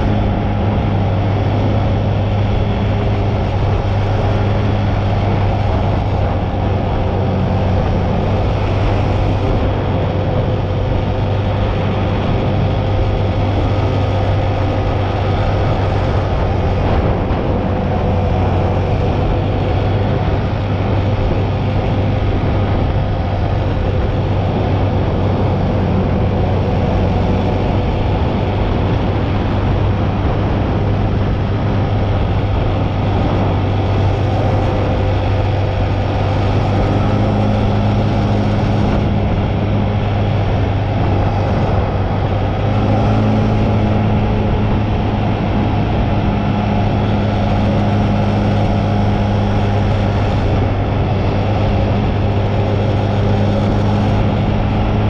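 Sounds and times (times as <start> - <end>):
atv engine droning: 0.0 - 55.0
higher steady hum: 0.0 - 55.0
road and wind noise: 0.0 - 55.0.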